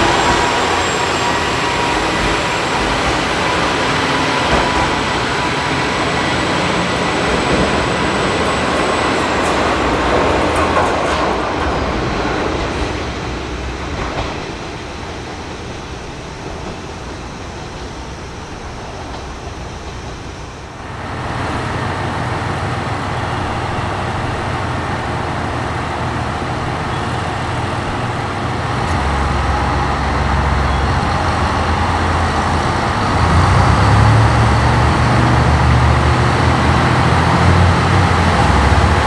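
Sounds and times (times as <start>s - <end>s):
diesel train engine: 0.0s - 39.0s
train wheels on rails: 0.0s - 39.0s.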